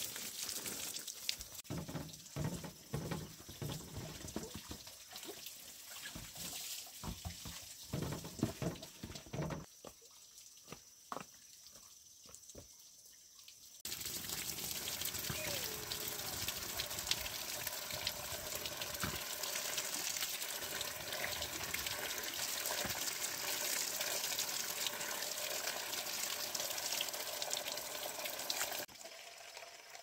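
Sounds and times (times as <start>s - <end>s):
water splashing and trickling: 0.0s - 30.0s.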